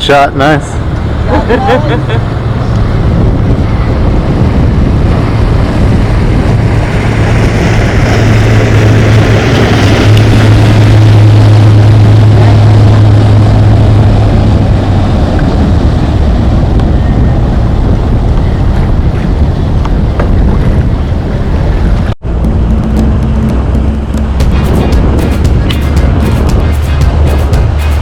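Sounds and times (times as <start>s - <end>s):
outboard motor humming: 0.0s - 28.0s
wind and water rushing: 0.0s - 28.0s.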